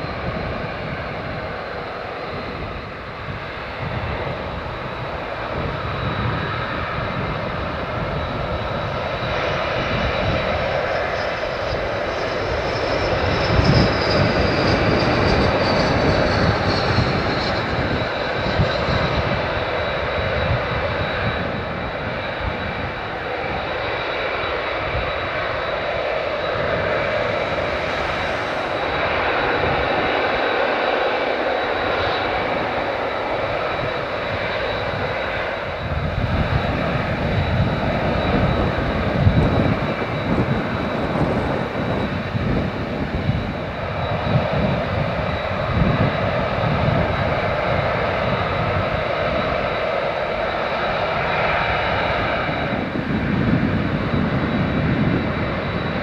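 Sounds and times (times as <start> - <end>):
high jet whine: 0.0 - 56.0
jet engines roaring at takeoff: 0.0 - 56.0.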